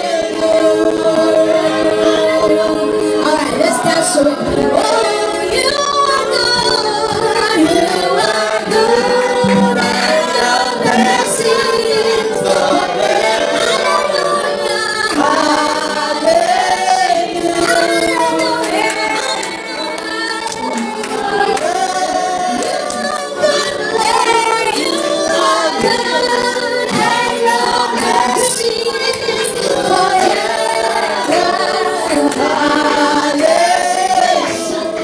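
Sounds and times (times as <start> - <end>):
choir and congregation singing: 0.0 - 35.0.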